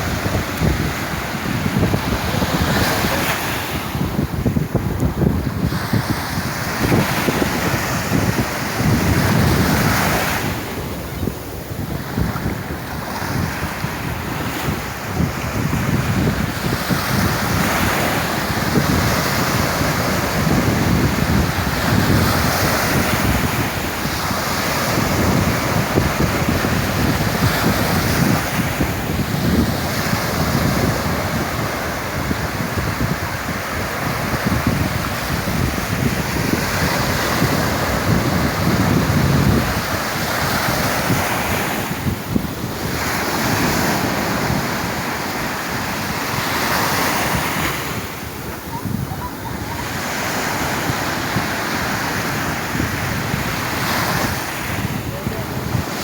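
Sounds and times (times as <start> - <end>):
sea waves breaking on shore: 0.0 - 56.0
wind buffeting microphone: 0.0 - 56.0.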